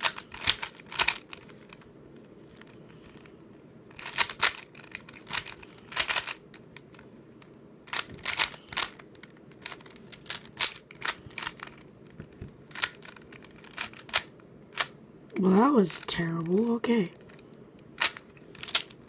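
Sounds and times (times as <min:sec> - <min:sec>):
puzzle cube clacking: 0:00.0 - 0:07.1, 0:07.9 - 0:19.0.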